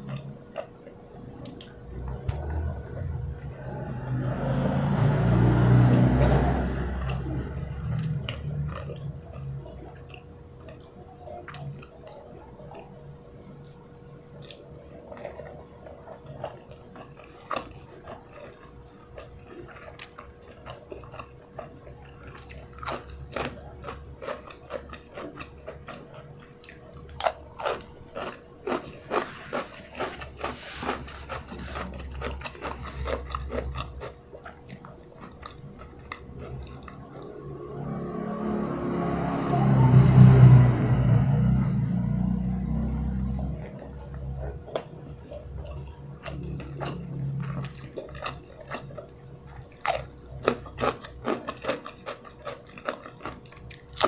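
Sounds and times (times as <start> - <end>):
chewing and crunching food: 0.0 - 41.0, 42.0 - 54.0.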